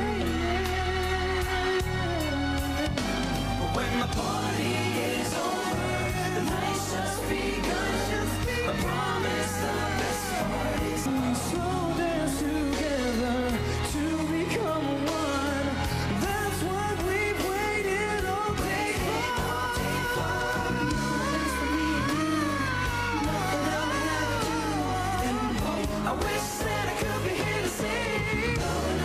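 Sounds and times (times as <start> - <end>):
band with bass and drums: 0.0 - 29.0
man singing into microphone: 3.6 - 29.0.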